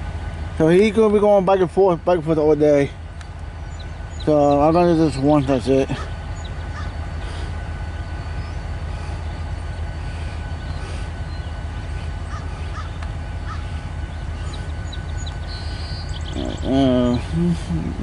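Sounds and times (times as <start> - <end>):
diesel locomotive rumbling: 0.0 - 18.0
tank cars rolling: 0.0 - 18.0
faint bird calls: 3.1 - 18.0.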